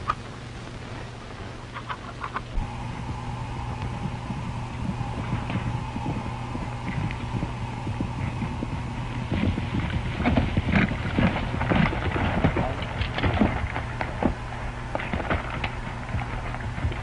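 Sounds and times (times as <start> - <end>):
horses galloping hoofbeats: 0.0 - 17.0
old film soundtrack hum and hiss: 0.0 - 17.0.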